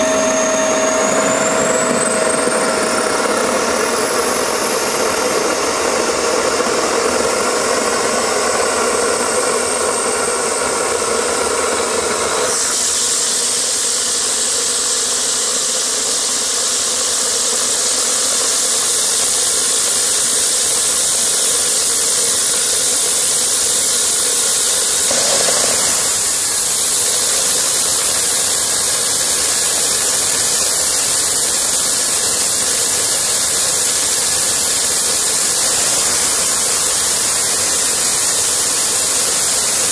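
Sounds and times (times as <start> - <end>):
high turbine whine: 0.0 - 39.9
jet engine exhaust hiss: 0.0 - 39.9.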